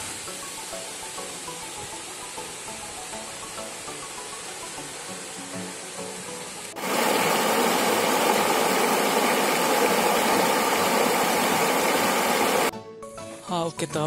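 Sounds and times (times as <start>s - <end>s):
waterfall rushing over rocks: 0.0s - 12.7s.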